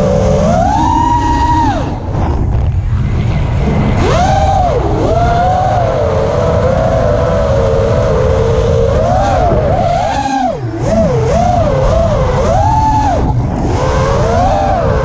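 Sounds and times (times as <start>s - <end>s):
drone motors whining: 0.0s - 15.0s
prop-wash rumble: 0.0s - 15.0s
wind noise: 0.0s - 15.0s.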